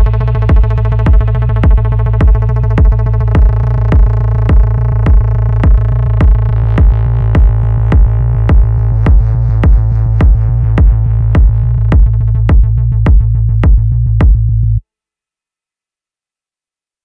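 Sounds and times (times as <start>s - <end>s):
electronic dance music: 0.0s - 14.4s.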